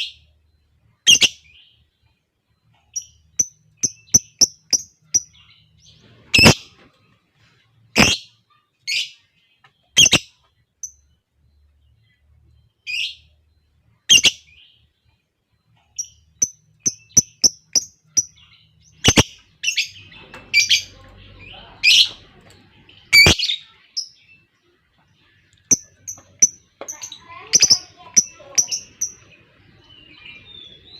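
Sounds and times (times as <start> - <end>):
lovebirds chirping and squawking: 0.0 - 30.9.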